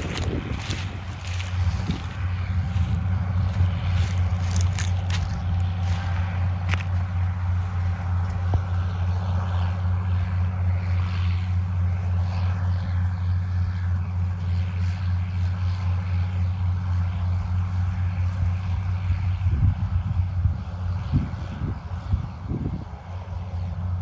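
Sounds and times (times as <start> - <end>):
farm machine engine droning: 0.0 - 24.0.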